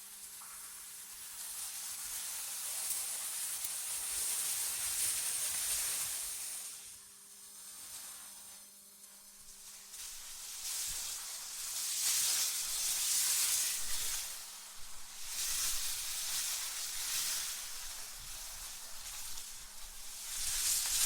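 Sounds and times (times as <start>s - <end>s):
synthetic wind hiss: 0.0s - 21.0s.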